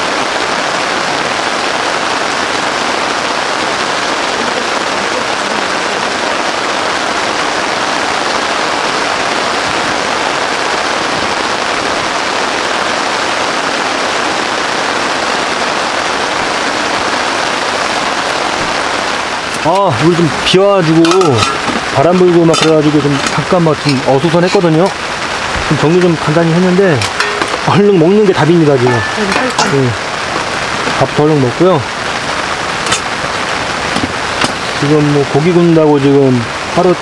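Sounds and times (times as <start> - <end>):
rain on a tarp: 0.0 - 37.0.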